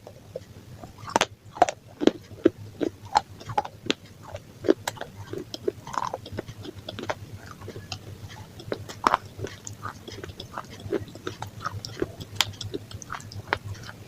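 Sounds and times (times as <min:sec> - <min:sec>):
person chewing pizza: 0:00.0 - 0:14.0.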